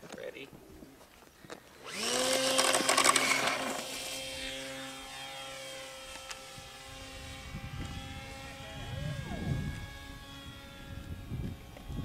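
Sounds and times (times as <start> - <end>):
model airplane motor and propeller: 1.8 - 12.0.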